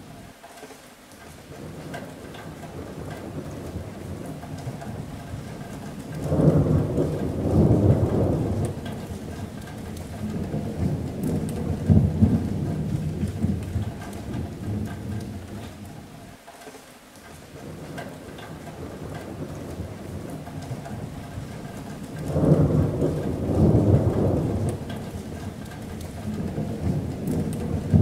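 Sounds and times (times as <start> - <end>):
rain on a metal roof: 0.0 - 28.0
rolling thunder: 1.6 - 16.1, 17.6 - 28.0.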